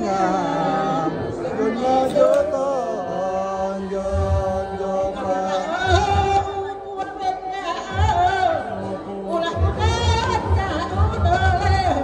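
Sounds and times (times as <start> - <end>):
woman singing a chant: 0.0 - 12.0.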